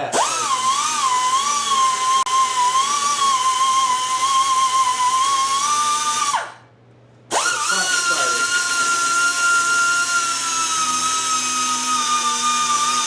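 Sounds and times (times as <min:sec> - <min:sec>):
pneumatic drill whining: 0:00.1 - 0:06.6, 0:07.3 - 0:13.0.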